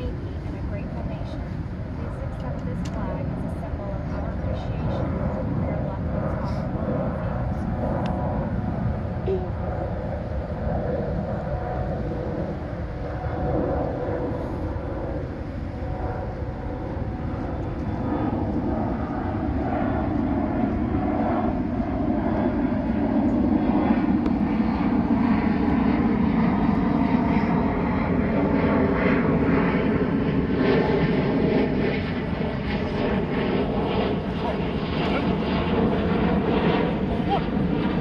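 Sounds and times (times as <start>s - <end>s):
airplane engine rumble: 0.0s - 38.0s.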